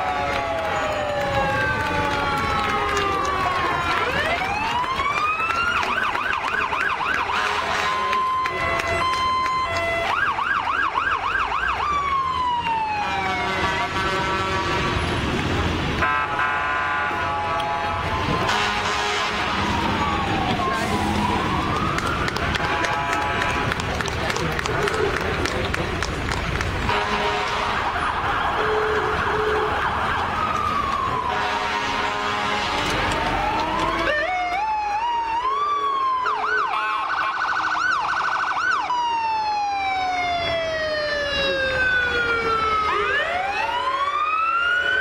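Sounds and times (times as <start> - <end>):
fire truck sirens: 0.0 - 45.0.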